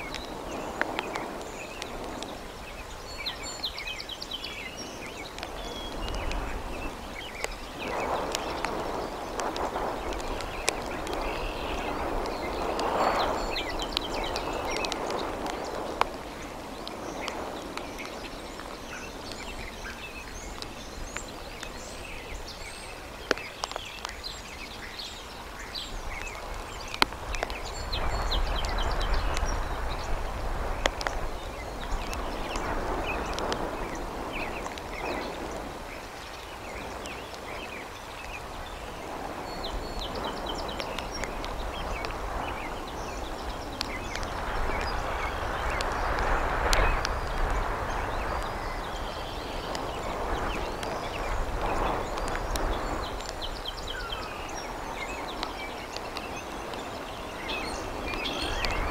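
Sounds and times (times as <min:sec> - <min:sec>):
rain and wind rushing: 0:00.0 - 0:58.9.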